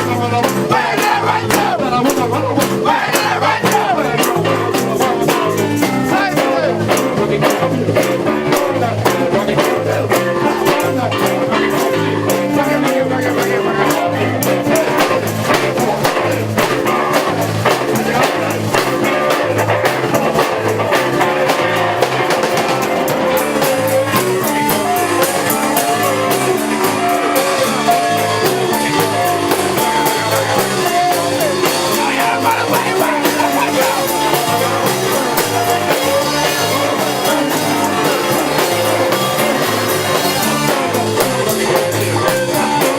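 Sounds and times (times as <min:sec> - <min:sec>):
person singing: 0:00.0 - 0:42.9
rock band playing: 0:00.0 - 0:42.9.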